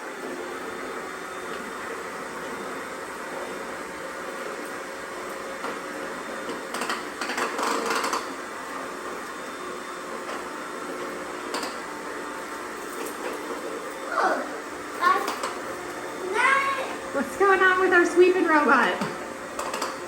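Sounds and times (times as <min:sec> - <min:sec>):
robot vacuums whirring: 0:00.0 - 0:20.0.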